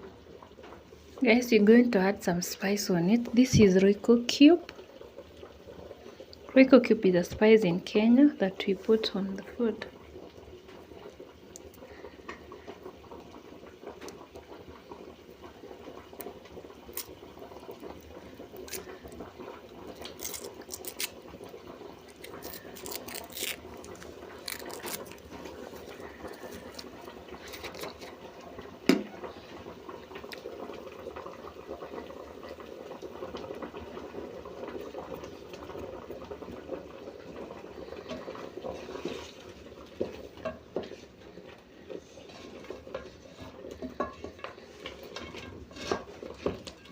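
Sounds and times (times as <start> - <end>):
soup boiling: 0.0 - 46.9.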